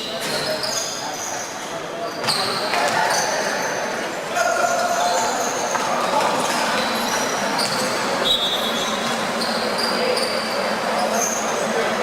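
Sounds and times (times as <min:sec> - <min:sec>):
sneakers squeaking on court: 0:00.0 - 0:03.9, 0:04.7 - 0:11.9
murmur of voices: 0:00.0 - 0:12.0.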